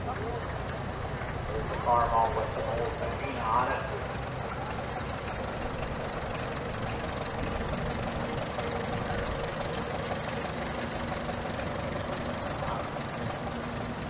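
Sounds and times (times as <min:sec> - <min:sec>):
tractor engine running slowly: 0:00.0 - 0:14.0.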